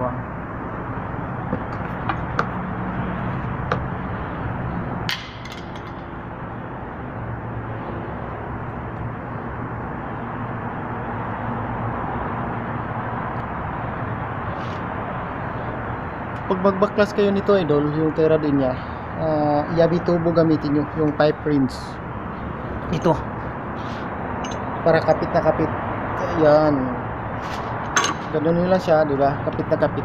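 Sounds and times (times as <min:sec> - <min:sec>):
steady hum and hiss: 0:00.0 - 0:30.0.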